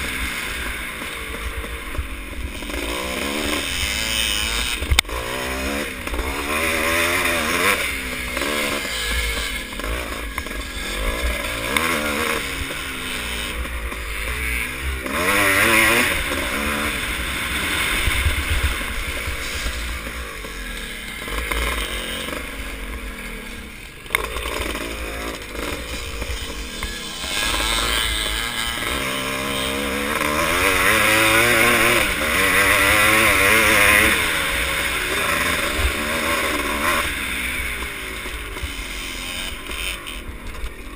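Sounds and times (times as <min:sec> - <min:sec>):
motocross motorcycle engines revving: 0:00.0 - 0:40.9.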